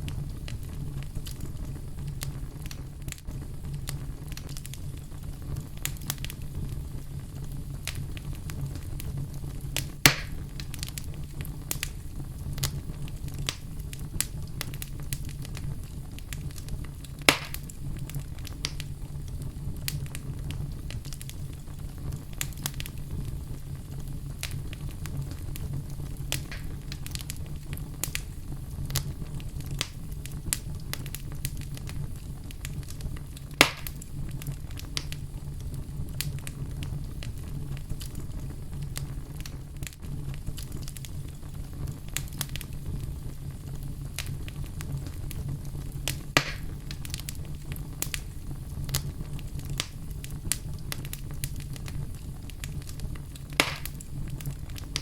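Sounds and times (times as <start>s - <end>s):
fire flames rumbling: 0.0s - 55.0s
loud fire pops: 0.0s - 55.0s
wood fire crackling: 0.0s - 55.0s.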